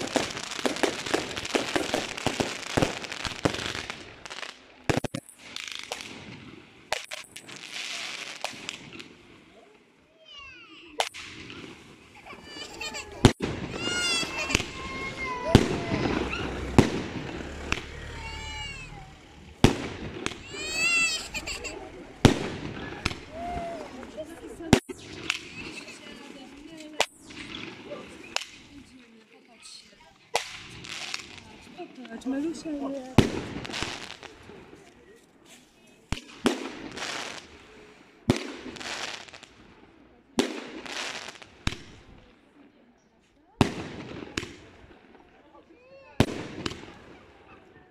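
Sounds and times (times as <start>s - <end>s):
firework bangs: 0.0s - 9.4s, 10.9s - 29.0s, 29.6s - 34.9s, 36.1s - 42.3s, 43.6s - 45.4s, 46.2s - 47.5s.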